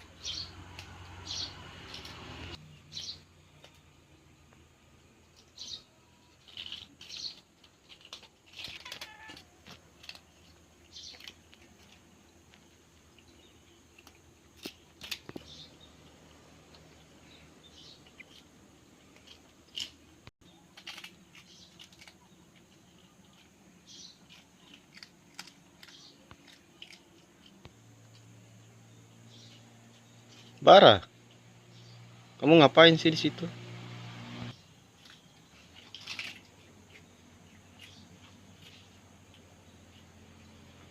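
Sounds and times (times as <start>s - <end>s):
cats crunching crackers: 0.6s - 2.6s, 3.6s - 28.4s, 34.7s - 40.8s.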